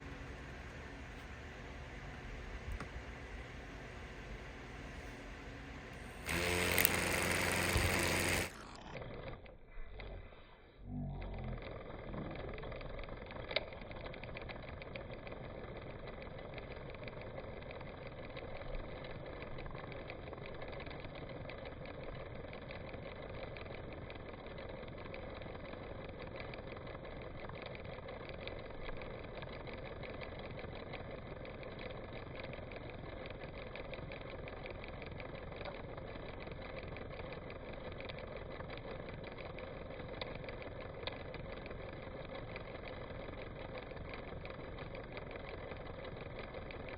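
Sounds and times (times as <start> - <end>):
engine idling: 5.9 - 46.9.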